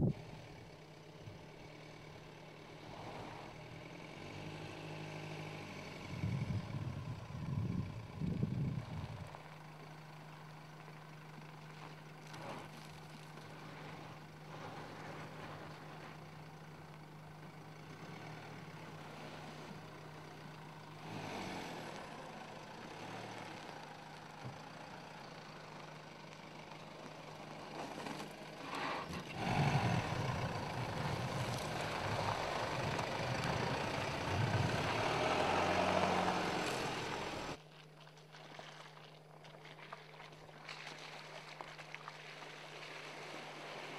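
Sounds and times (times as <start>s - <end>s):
diesel engine low hum: 0.0s - 43.9s
tyres on loose gravel: 6.1s - 43.9s.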